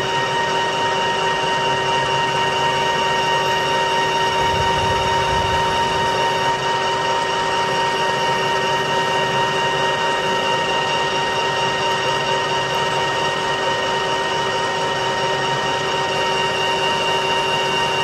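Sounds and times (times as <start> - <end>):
machine whine: 0.0 - 18.0
metal lathe cutting: 0.0 - 18.0.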